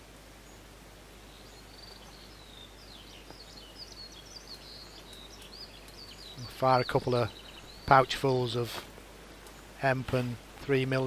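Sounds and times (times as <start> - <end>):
faint background hiss: 0.0 - 11.0
songbird singing: 0.0 - 11.0.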